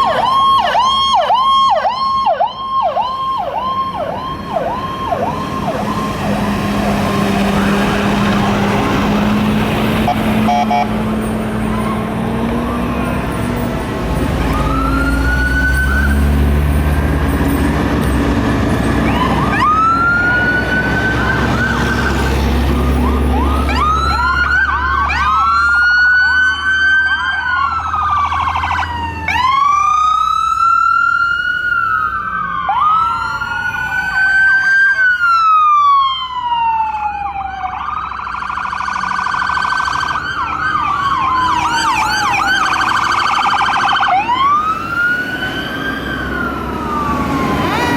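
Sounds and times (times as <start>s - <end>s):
fire truck sirens wailing: 0.0s - 47.9s.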